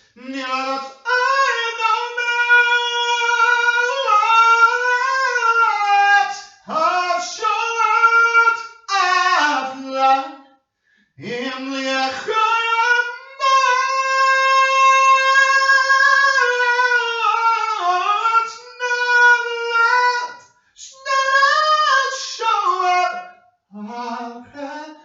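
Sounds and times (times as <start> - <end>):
high voice singing unaccompanied: 0.2 - 10.4, 11.2 - 23.2, 23.8 - 25.0.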